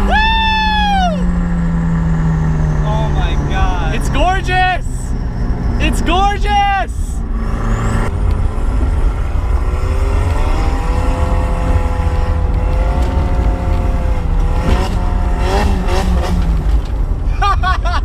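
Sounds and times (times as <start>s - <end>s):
car engine pulling hard: 0.0s - 18.0s.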